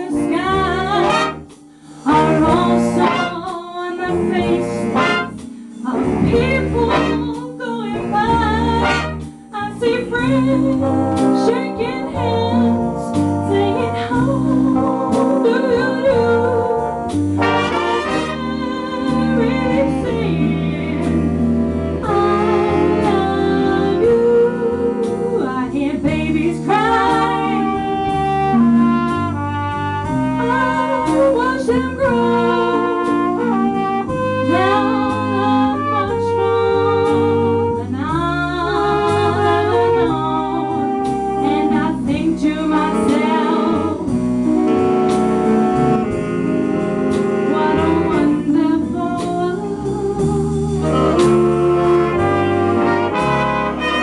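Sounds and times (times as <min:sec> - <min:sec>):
jazz band playing ballad: 0:00.0 - 0:54.0
steady bass line: 0:00.0 - 0:54.0.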